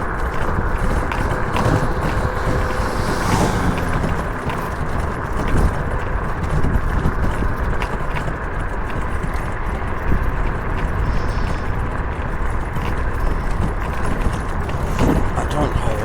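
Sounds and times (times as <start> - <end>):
tyre on road noise: 0.0 - 16.0
wind rushing over microphone: 0.0 - 16.0.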